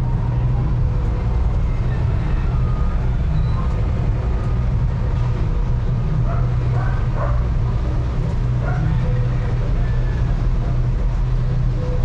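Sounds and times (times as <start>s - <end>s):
low rumble of motor vehicles: 0.0s - 12.0s.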